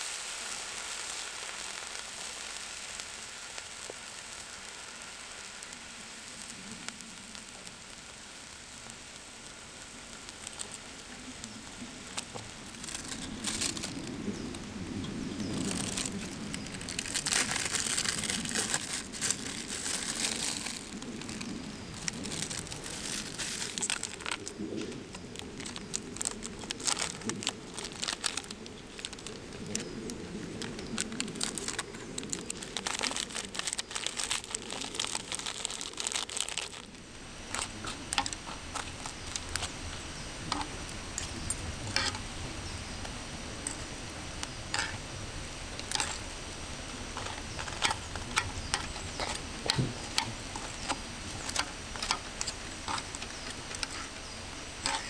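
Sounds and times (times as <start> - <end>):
crinkling and rustling: 9.4 - 55.0.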